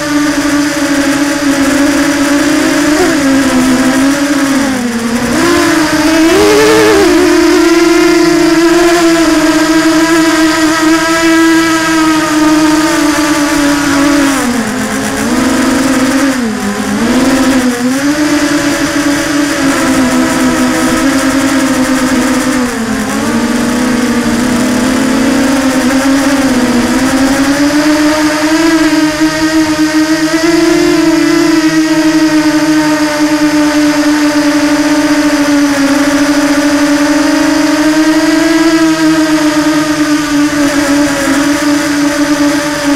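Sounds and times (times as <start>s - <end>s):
drone motors buzzing: 0.0s - 42.9s.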